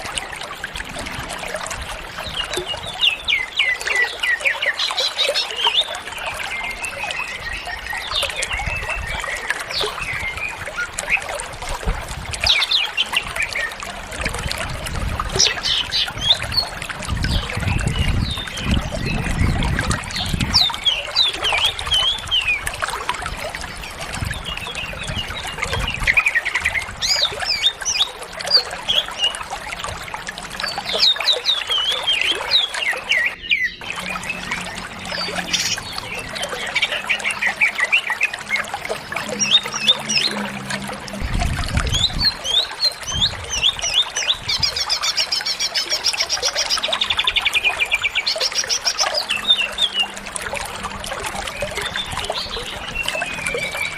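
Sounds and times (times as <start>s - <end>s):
bird singing chirps and trills: 0.0s - 53.9s.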